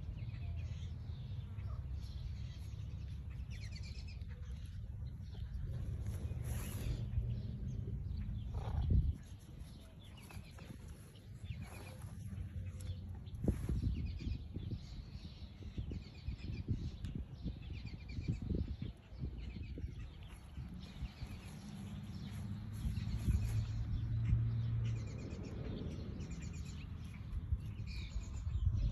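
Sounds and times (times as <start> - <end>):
birds chirping: 0.0 - 28.9
wind rumble on microphone: 0.0 - 28.9.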